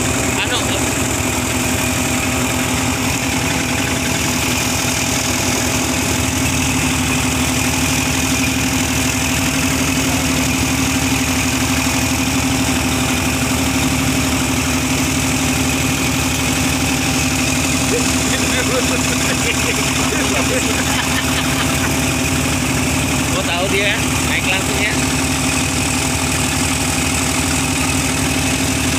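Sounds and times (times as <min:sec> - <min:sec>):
small engine running: 0:00.0 - 0:28.9.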